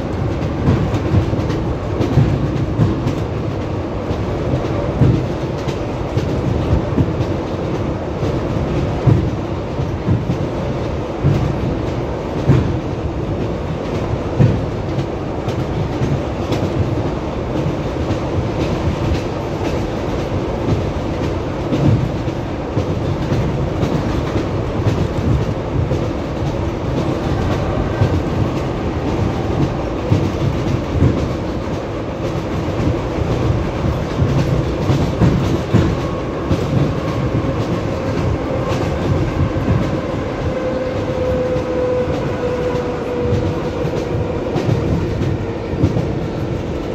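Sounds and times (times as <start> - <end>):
train running noise: 0.0 - 46.9
train wheels clattering over rail joints: 0.0 - 46.9.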